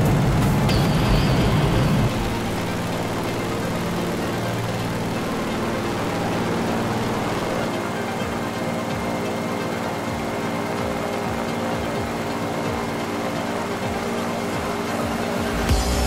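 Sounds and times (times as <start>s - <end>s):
floatplane engine drone: 0.0s - 16.0s.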